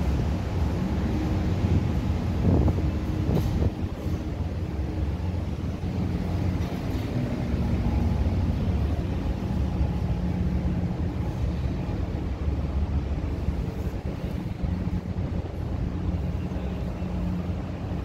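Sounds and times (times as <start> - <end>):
metro station rumble and hum: 0.0 - 18.0.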